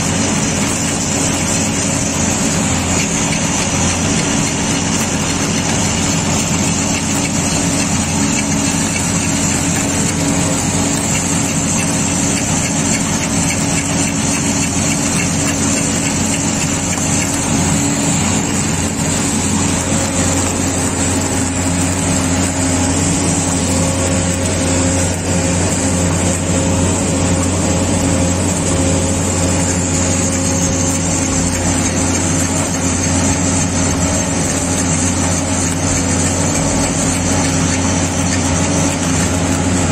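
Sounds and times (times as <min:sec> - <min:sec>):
welding machine drone: 0:00.0 - 0:39.9.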